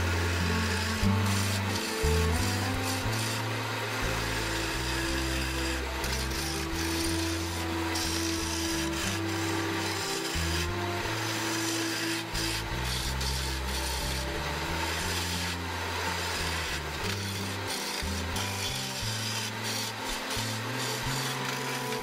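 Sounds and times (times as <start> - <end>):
background music with bass: 0.0 - 22.0
lathe tool scraping wood: 0.0 - 22.0.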